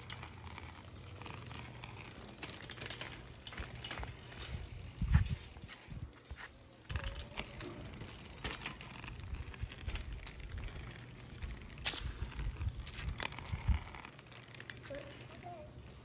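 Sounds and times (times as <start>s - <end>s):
bicycle clicks and rattles: 0.0s - 5.9s, 6.8s - 16.0s
bicycle tyre rumble on concrete: 0.0s - 16.0s.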